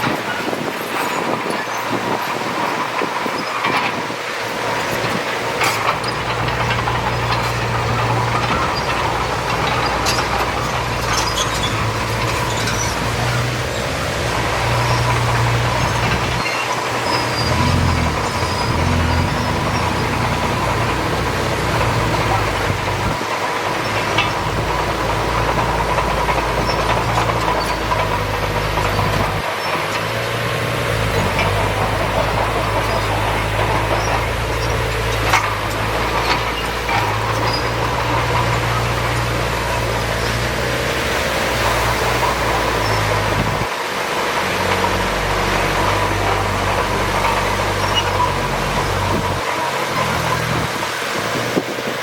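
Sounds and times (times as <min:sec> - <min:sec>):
diesel engine humming: 0:00.0 - 0:52.0.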